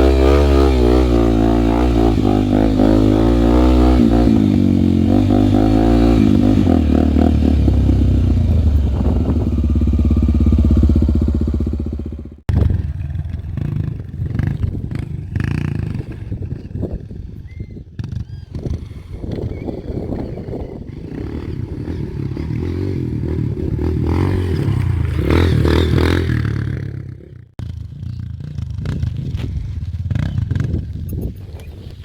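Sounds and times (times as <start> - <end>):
motorcycle engine revving: 0.0 - 17.2, 17.9 - 31.4.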